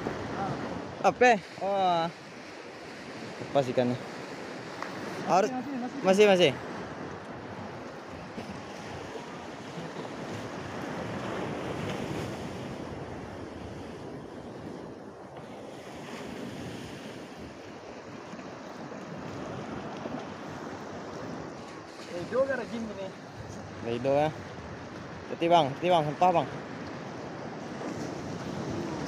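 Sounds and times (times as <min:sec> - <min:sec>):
small waves washing ashore: 0:00.0 - 0:29.0
wind buffeting microphone: 0:02.6 - 0:29.0.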